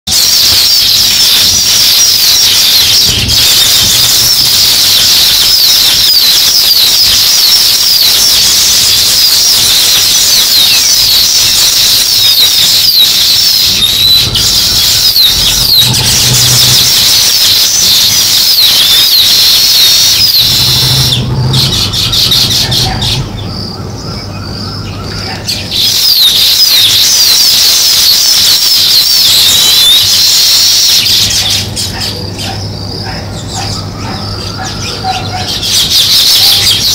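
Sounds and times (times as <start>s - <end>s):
sparrows chirping: 0.2s - 28.1s, 28.8s - 36.9s.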